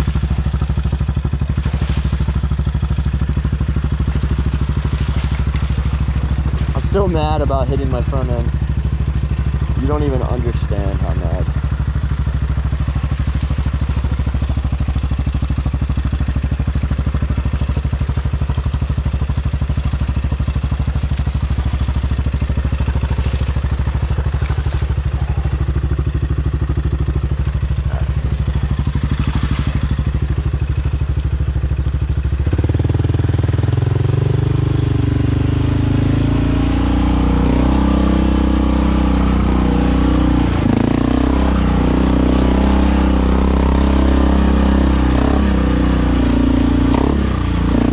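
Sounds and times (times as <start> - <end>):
atv engine running and revving: 0.0 - 47.9.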